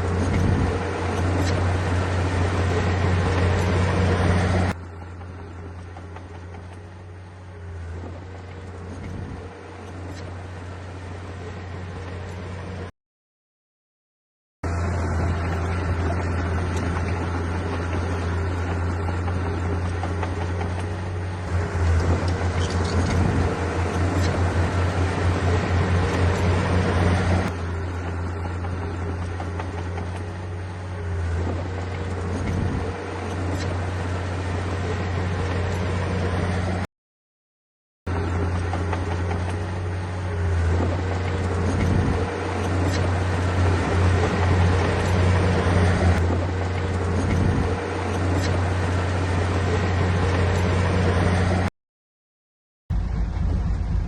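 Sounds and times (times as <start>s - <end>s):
heavy diesel engine running: 0.0s - 12.9s, 14.6s - 36.9s, 38.1s - 51.7s, 52.9s - 54.0s.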